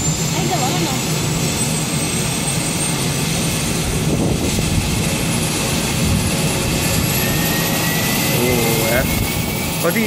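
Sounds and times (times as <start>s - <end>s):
turboprop engines whining: 0.0s - 10.0s.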